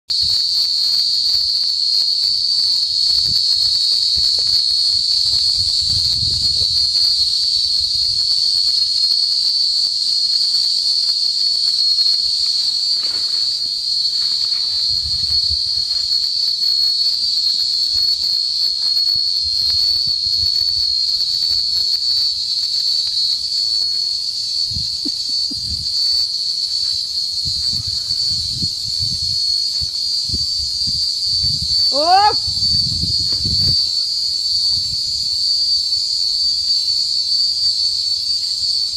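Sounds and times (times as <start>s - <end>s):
cicadas droning: 0.0s - 38.9s.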